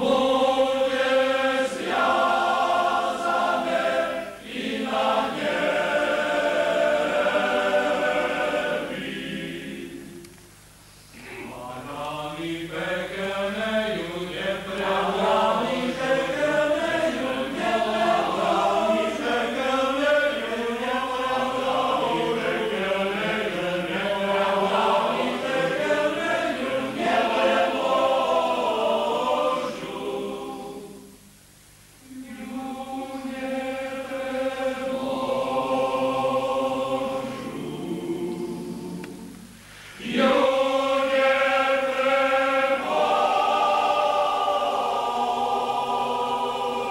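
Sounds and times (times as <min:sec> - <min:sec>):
men's choir singing: 0:00.0 - 0:10.2, 0:11.5 - 0:31.1, 0:32.0 - 0:46.9.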